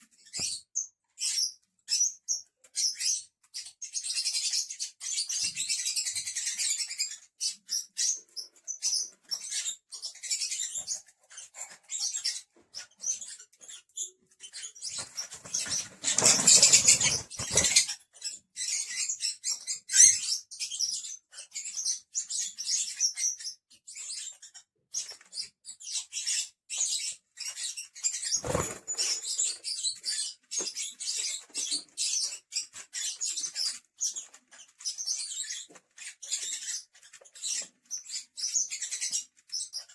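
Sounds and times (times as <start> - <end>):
lovebirds chirping: 0.1 - 39.9.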